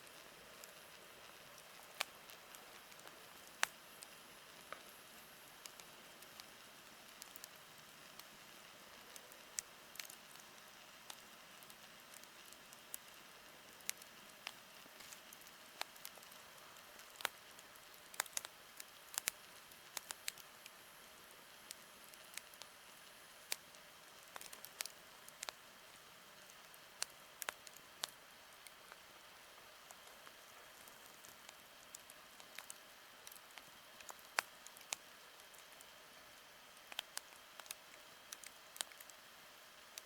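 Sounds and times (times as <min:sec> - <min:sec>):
campfire crackling: 0:00.0 - 0:40.0.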